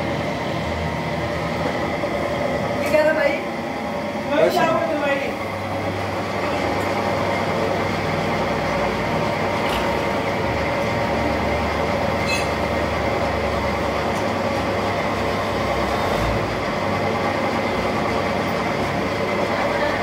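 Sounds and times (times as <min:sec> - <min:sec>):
lathe motor drone: 0:00.0 - 0:20.0.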